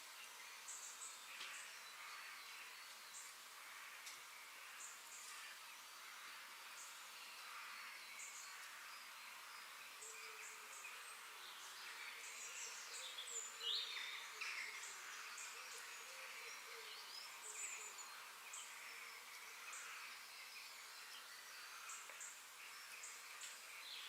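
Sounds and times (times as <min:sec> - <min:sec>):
faint steady hiss: 0:00.0 - 0:24.0
small birds chirping: 0:00.0 - 0:24.0.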